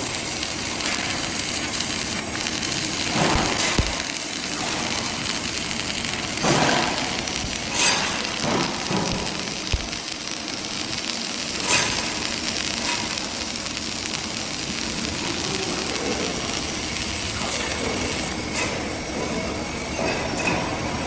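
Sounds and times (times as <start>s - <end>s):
welding arc hissing: 0.0s - 18.9s.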